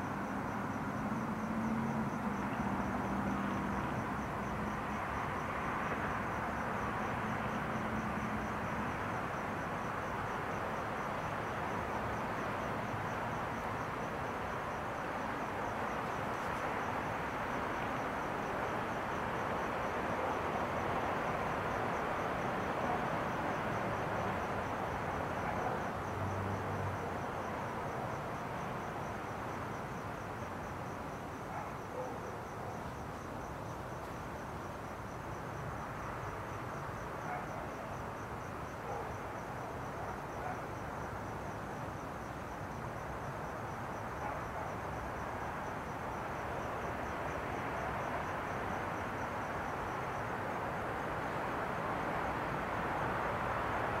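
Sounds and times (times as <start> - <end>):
cricket chirping: 0.0 - 54.0.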